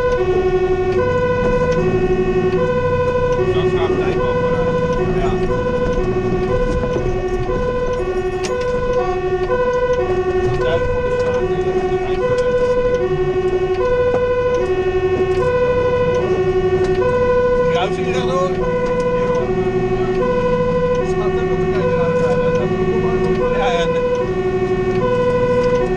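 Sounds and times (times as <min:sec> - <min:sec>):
truck engine rumbling: 0:00.0 - 0:25.9
two-tone siren: 0:00.0 - 0:25.9.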